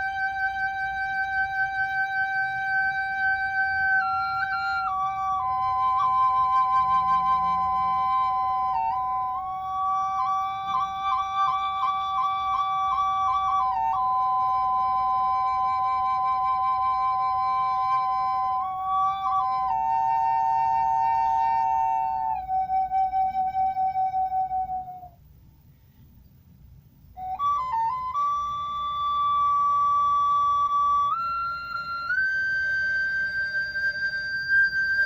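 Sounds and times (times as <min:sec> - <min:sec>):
double flute playing: 0:00.0 - 0:25.2, 0:27.2 - 0:35.0.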